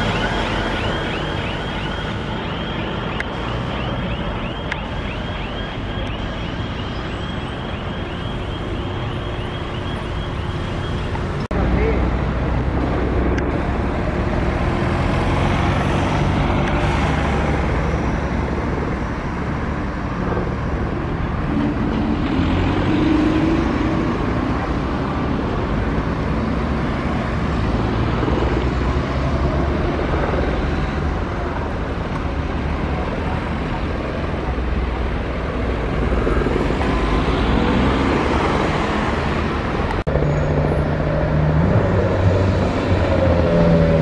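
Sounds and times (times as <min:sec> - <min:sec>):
road vehicle engines: 0:00.0 - 0:44.0.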